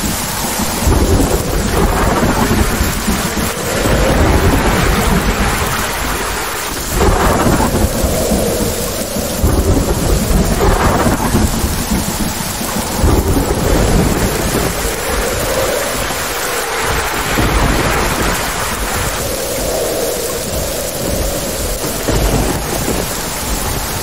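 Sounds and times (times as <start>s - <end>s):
heavy rain: 0.0s - 24.0s
thunder rolling: 0.0s - 24.0s.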